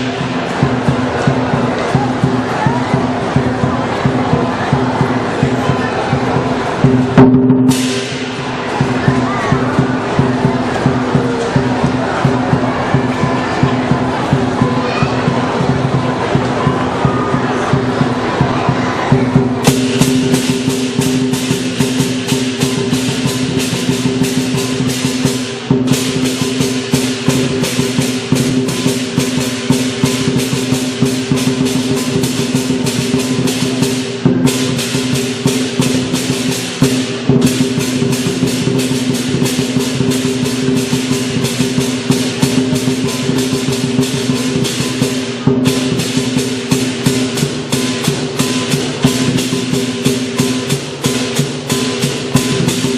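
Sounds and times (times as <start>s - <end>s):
clashing cymbals: 0.0s - 18.5s, 19.2s - 52.9s
drum beaten in fast roll: 0.0s - 52.9s.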